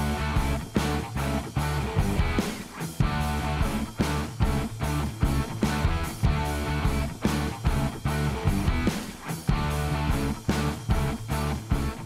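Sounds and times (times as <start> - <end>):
guitar background music: 0.0 - 12.0.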